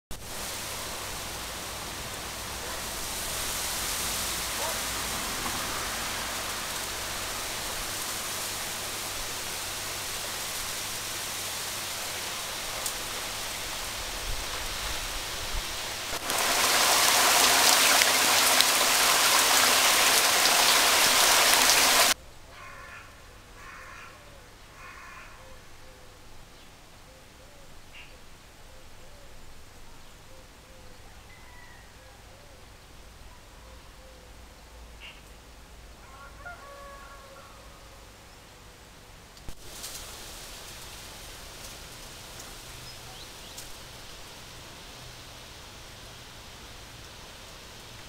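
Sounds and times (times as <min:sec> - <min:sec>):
wind rustling bamboo leaves: 0:00.1 - 0:48.0.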